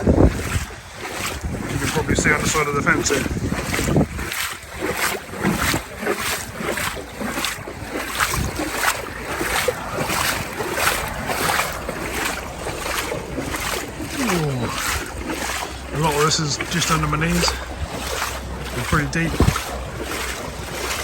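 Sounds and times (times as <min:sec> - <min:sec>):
water sloshing with footsteps: 0:00.0 - 0:21.0
wind buffeting microphone: 0:00.0 - 0:21.0.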